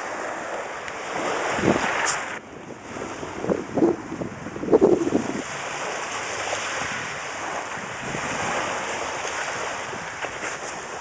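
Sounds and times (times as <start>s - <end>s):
sea at the shore: 0.0s - 11.0s.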